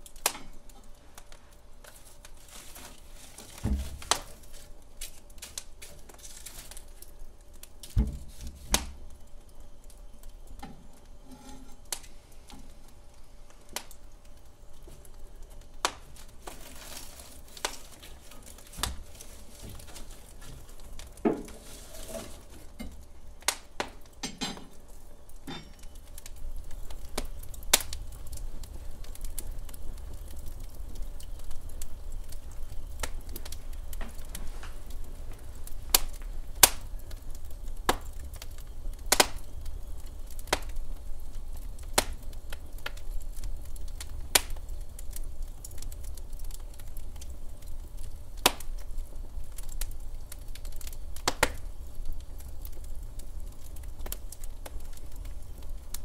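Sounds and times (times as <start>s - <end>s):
low rumble of burning log: 0.0s - 56.0s
wood fire crackling: 0.0s - 56.0s.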